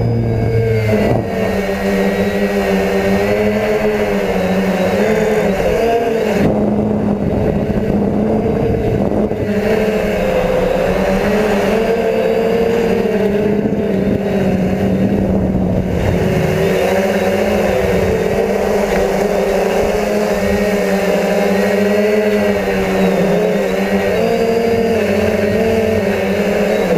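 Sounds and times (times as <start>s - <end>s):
drone propellers buzzing: 0.0s - 26.9s.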